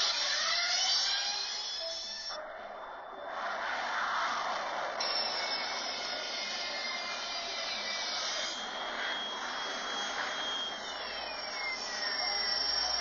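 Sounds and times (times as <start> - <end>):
thin whining tones: 0.0 - 13.0
jet-like rushing hum: 1.0 - 13.0.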